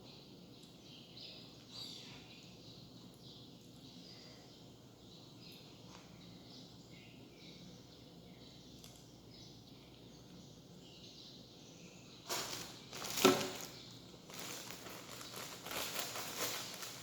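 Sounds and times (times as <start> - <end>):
faint chirping: 0.0 - 17.0.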